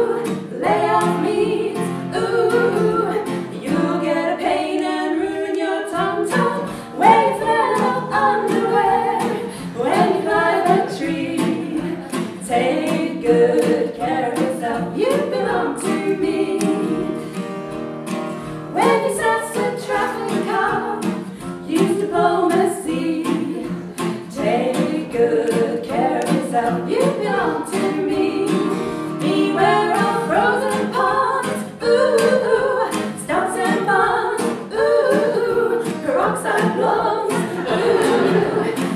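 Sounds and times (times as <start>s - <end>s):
women singing: 0.0s - 17.3s, 18.7s - 38.9s
acoustic guitar: 0.0s - 38.9s.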